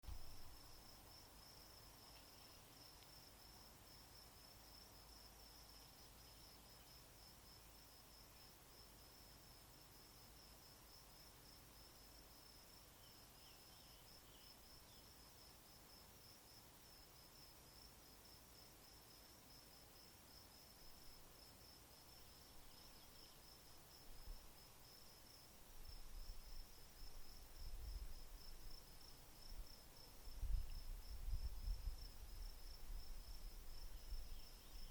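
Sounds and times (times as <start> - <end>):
high-pitched insect trill: 0.1 - 34.9.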